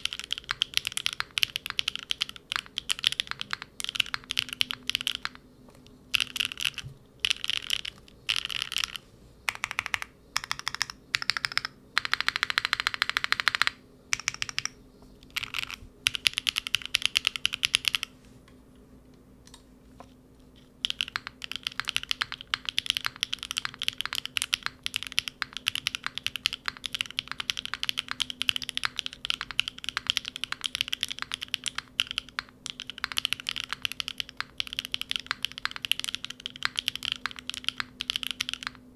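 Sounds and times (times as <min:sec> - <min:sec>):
typing on mechanical keyboard: 0:00.0 - 0:05.4, 0:06.2 - 0:18.1, 0:20.7 - 0:38.8.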